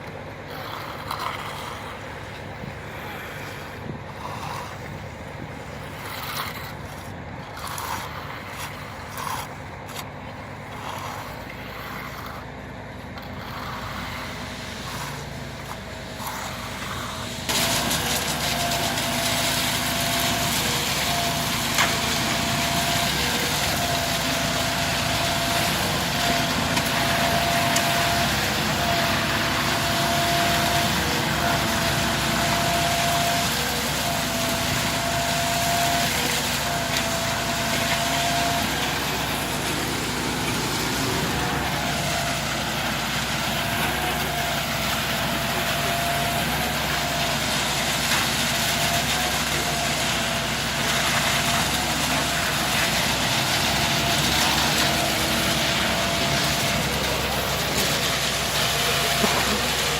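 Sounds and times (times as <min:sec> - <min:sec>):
motor humming: 0:00.5 - 0:59.9.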